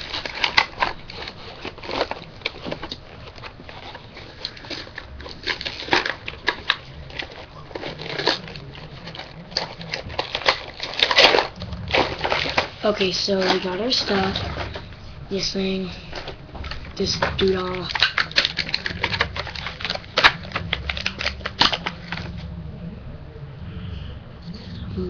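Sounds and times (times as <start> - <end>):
packaging crinkling and rustling: 0.0 - 22.5.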